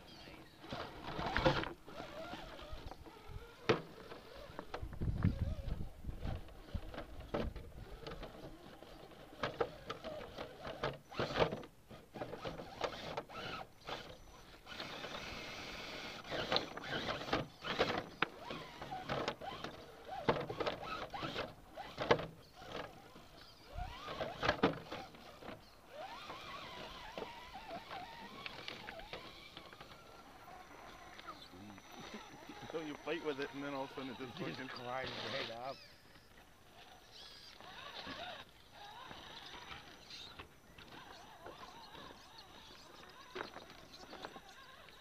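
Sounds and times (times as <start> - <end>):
electric motor and gears whirring: 0.0 - 45.0
tyres scraping on rocks: 0.1 - 45.0.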